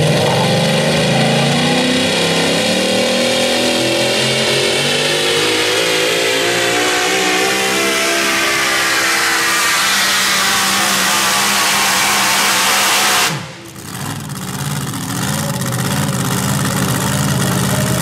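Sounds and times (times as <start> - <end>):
supercharged truck engine full throttle: 0.0 - 18.0.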